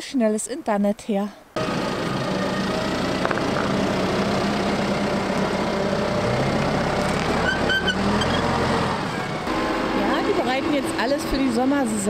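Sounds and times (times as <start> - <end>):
tractor engine running under load: 1.6 - 12.0.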